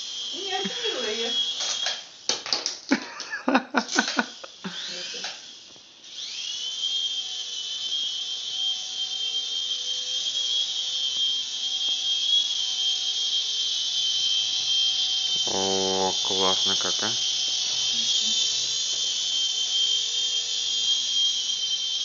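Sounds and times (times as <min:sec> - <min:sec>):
electric motor whining: 0:00.0 - 0:02.4, 0:03.9 - 0:22.0.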